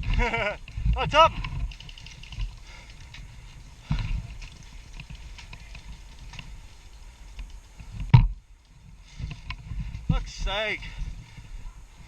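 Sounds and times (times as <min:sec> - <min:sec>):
body-worn camera movement rumble: 0:00.0 - 0:12.0
wind: 0:00.0 - 0:12.0.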